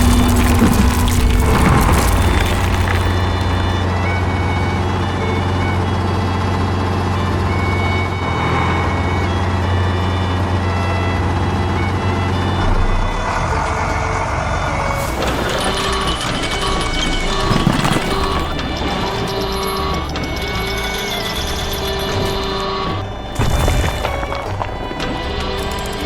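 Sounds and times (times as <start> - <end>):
heavy vehicle engine humming: 0.0 - 23.4.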